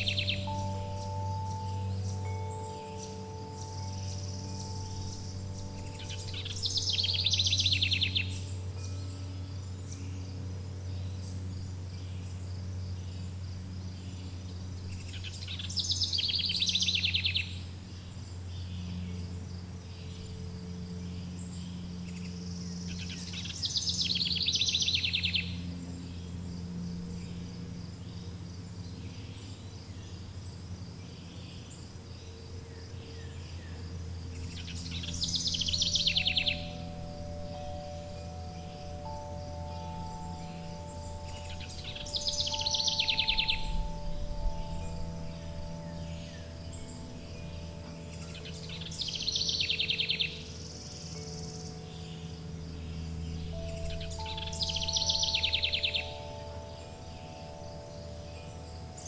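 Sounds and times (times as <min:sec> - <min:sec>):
songbird trilling: 0:00.0 - 0:30.4, 0:31.0 - 0:59.0
insects chirring: 0:00.0 - 0:59.0
low steady hum: 0:00.0 - 0:59.0
wind chimes: 0:00.0 - 0:59.0.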